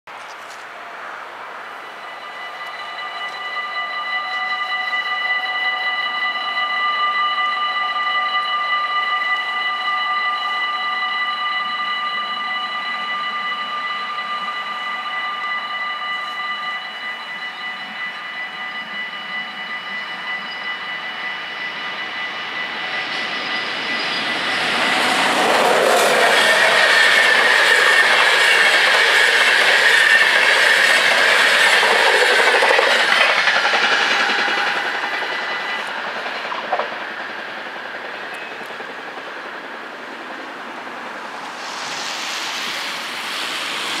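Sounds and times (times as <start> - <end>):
passenger train passing: 0.2 - 44.0
level crossing bells ringing: 1.7 - 38.9.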